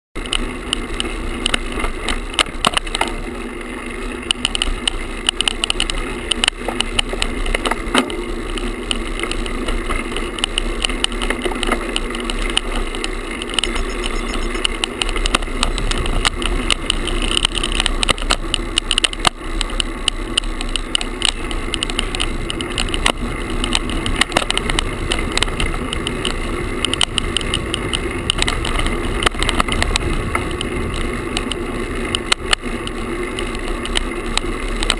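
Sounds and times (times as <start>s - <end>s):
camera rattling on handlebars: 0.2s - 34.9s
rolling road noise: 0.2s - 34.9s
wind noise: 4.3s - 34.9s.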